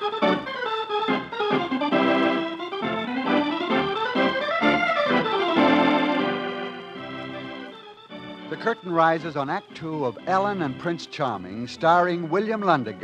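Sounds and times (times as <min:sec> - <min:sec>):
organ music over held chords: 0:00.0 - 0:13.0.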